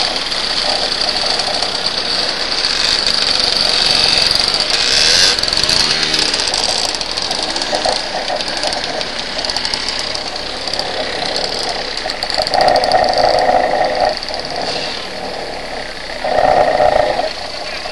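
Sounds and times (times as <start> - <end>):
loud steady engine note: 0.0 - 17.9
scooter engines in slow traffic: 0.0 - 17.9.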